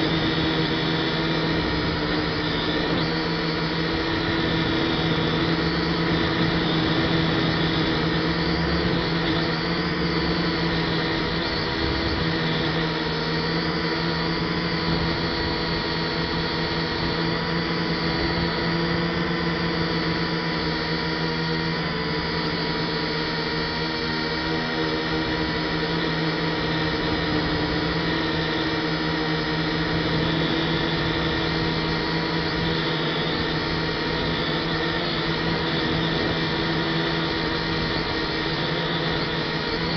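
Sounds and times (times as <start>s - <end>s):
quadcopter motors whirring: 0.0s - 39.9s.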